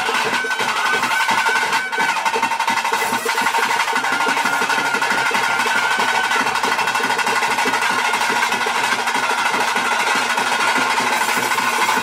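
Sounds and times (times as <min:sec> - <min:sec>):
fast drumming: 0:00.0 - 0:12.0.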